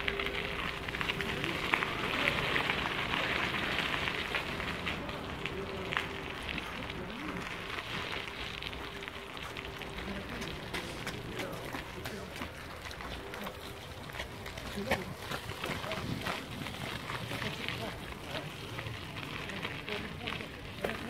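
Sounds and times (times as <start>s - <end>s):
bicycle tyres on gravel: 0.0s - 21.0s.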